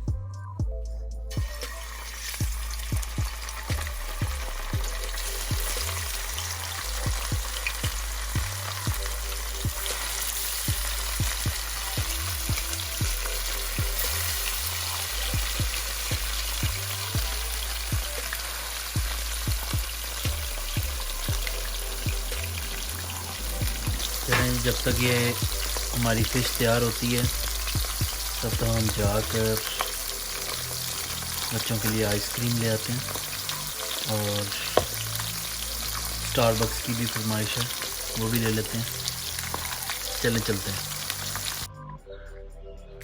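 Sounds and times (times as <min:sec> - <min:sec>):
faint background music with a beat: 0:00.0 - 0:43.0
fish sizzling in oil: 0:01.4 - 0:41.7.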